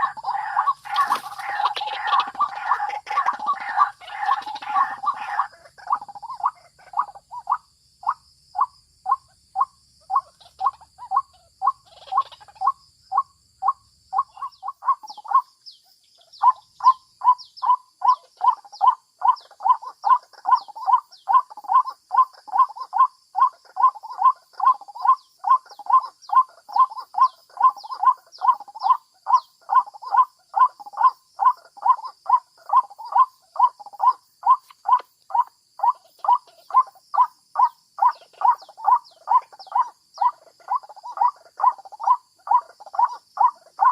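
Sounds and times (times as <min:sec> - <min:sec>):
bird calling repeatedly: 0:00.0 - 0:43.9.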